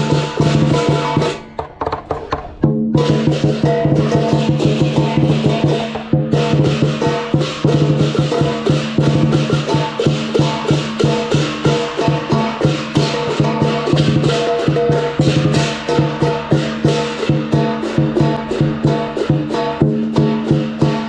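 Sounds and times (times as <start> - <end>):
cymbals and gong crashing: 0.0 - 1.6, 2.6 - 21.0
big drum fast rhythm: 0.0 - 21.0.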